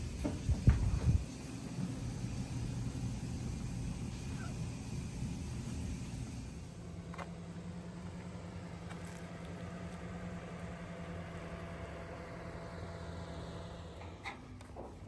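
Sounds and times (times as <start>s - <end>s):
machine humming: 0.0s - 14.8s.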